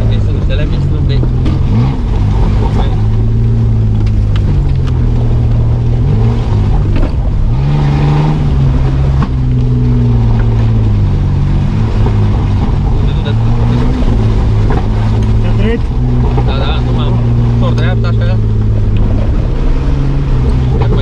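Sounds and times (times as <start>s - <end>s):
car engine revving: 0.0s - 21.0s
vehicle knocking over ruts: 0.0s - 21.0s.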